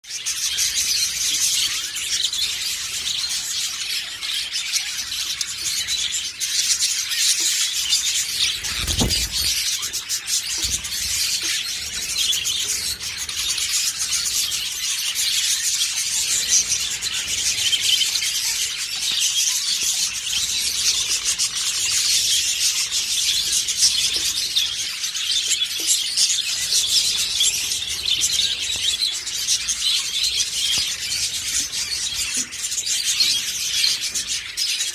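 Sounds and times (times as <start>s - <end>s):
budgerigars chattering and chirping: 0.1s - 34.9s.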